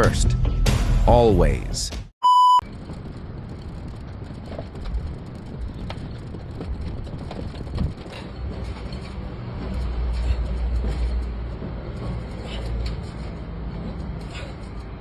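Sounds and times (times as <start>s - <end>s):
low rumble: 2.6s - 14.8s
steady background noise: 2.6s - 15.0s.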